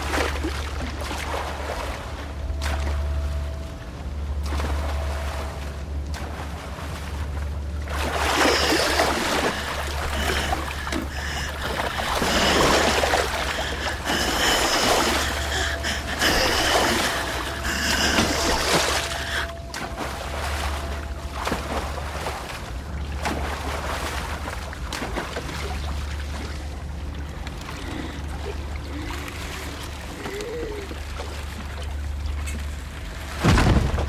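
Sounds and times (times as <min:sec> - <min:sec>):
steady low hum: 0:00.0 - 0:34.0
water lapping and rushing: 0:00.0 - 0:34.0.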